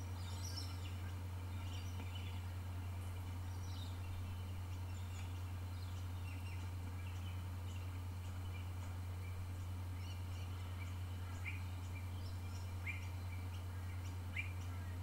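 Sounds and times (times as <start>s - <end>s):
bird chirps: 0.0s - 15.0s
steady low hum: 0.0s - 15.0s.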